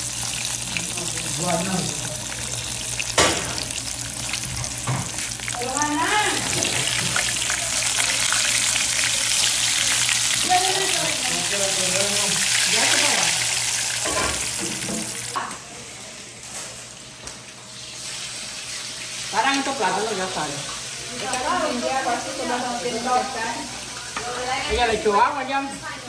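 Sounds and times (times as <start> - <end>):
food frying sizzle: 0.0 - 15.6, 17.0 - 26.0.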